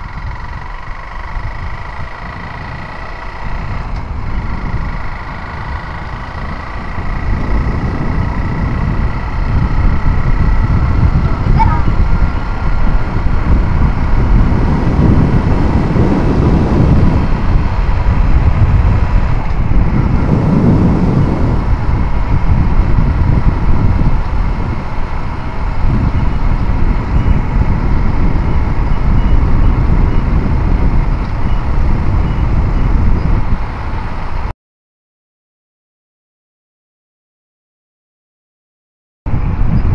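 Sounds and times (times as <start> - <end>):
motorcycle engine running: 0.0 - 34.5, 39.3 - 39.9
wind rumble on microphone: 0.0 - 34.5, 39.3 - 39.9.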